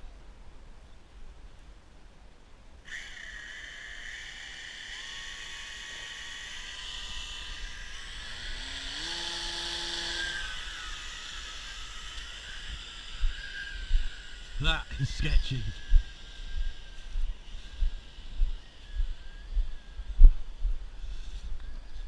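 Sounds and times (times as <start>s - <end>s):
electric propeller motors whining: 2.9s - 22.0s.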